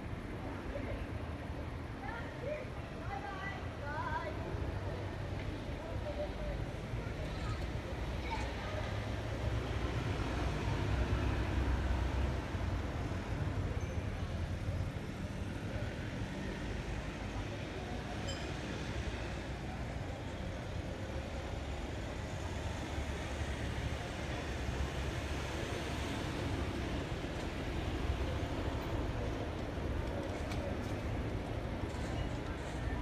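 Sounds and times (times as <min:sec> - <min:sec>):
distant city traffic rumble: 0:00.0 - 0:33.0.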